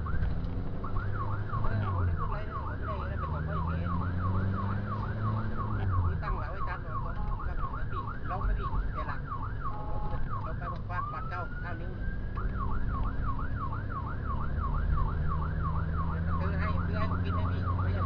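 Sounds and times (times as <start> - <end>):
emergency siren yelping: 0.0 - 18.0
vehicle engine running: 0.0 - 18.0.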